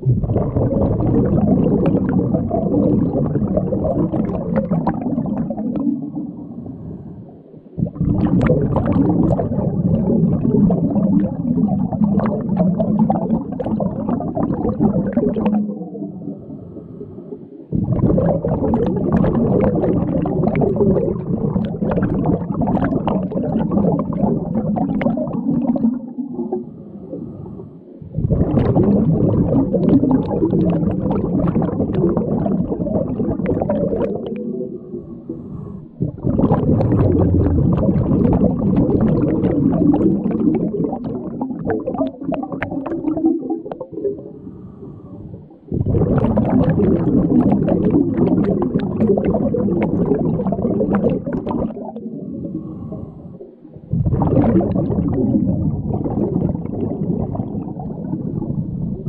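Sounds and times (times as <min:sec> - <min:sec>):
scuba regulator bubbles: 0:00.0 - 0:59.0.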